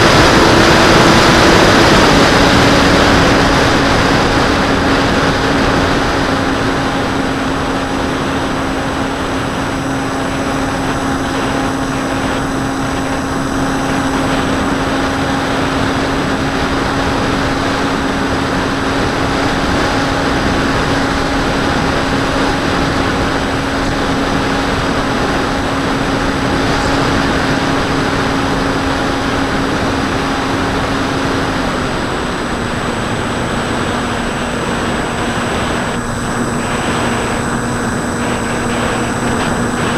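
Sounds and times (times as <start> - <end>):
propeller drone: 0.0 - 39.9.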